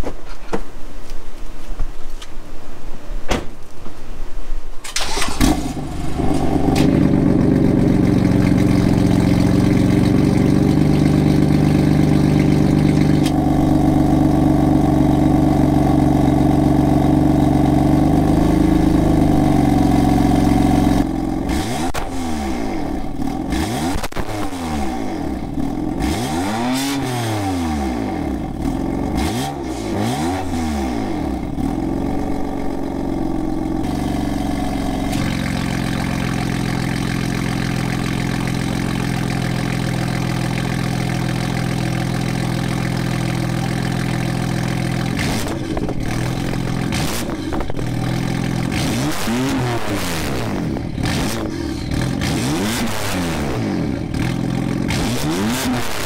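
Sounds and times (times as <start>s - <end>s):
car engine idling and revving: 5.0s - 56.0s.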